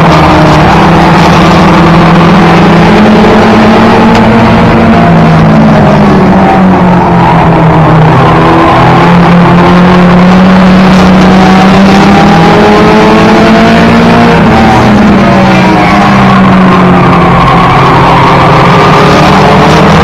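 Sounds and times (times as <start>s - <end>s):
race car engine at high revs: 0.0s - 20.0s
road and wind noise: 0.0s - 20.0s.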